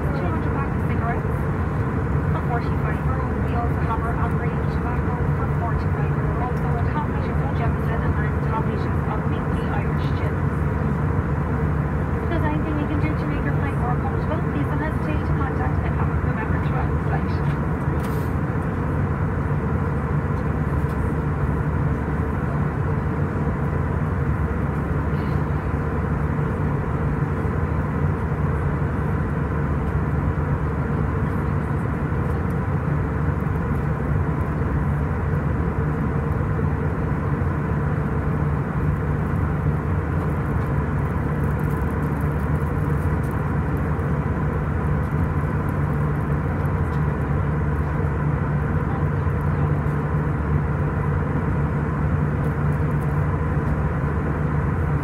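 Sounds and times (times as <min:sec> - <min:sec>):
jet engines roaring: 0:00.0 - 0:55.0
low hum: 0:00.0 - 0:55.0.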